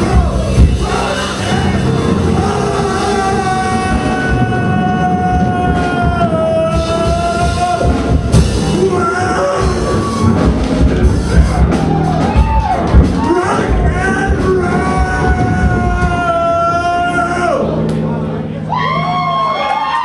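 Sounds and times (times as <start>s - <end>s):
live punk rock band: 0.0s - 20.0s.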